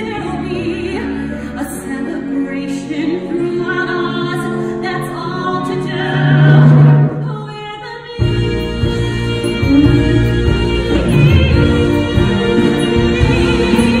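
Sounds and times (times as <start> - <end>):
pit orchestra playing: 0.0 - 7.4, 8.2 - 14.0
woman singing: 0.0 - 14.0.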